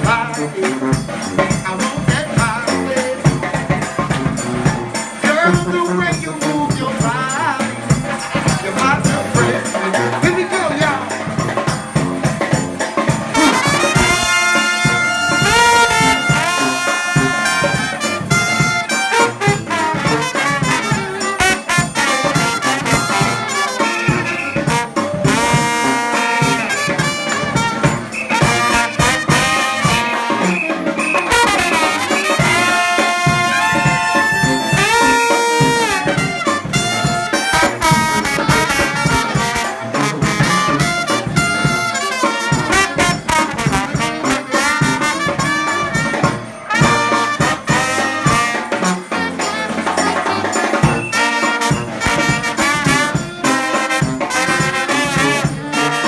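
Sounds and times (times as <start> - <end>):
brass band playing: 0.0 - 56.0
steady drum beat: 0.0 - 56.0.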